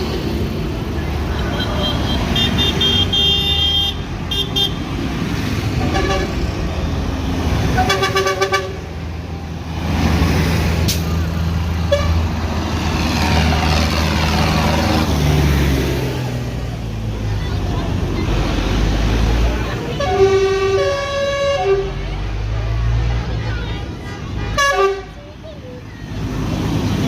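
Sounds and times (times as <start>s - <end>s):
tractors and trucks passing: 0.0s - 27.0s.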